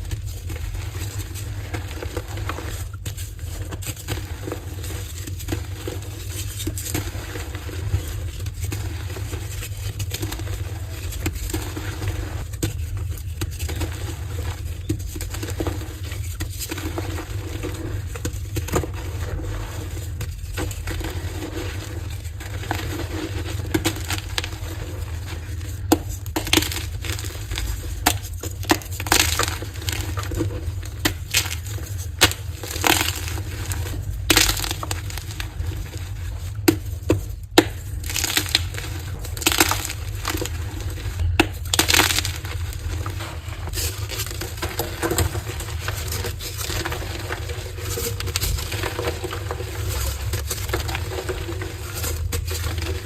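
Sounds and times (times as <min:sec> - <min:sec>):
chalk blocks crunching: 0:00.0 - 0:53.0.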